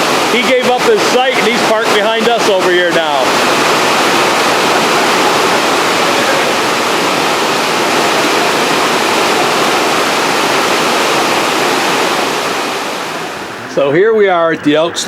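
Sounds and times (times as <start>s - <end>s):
torrential rain pouring: 0.0s - 13.7s.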